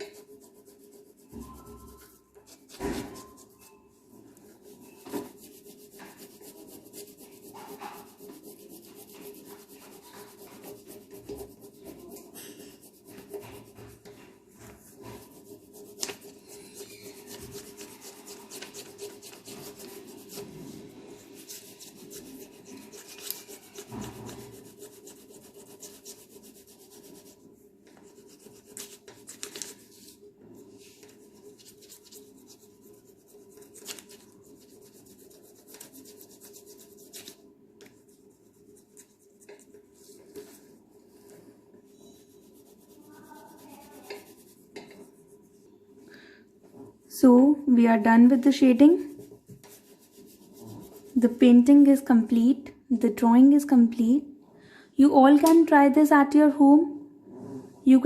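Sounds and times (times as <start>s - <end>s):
crayon rubbing on paper: 0.0s - 3.7s, 4.4s - 37.4s, 38.0s - 45.6s, 48.3s - 52.1s.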